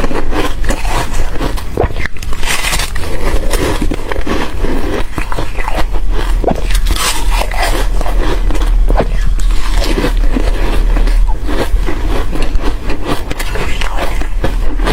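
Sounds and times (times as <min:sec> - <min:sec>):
crunching crispy foam: 0:00.0 - 0:14.9.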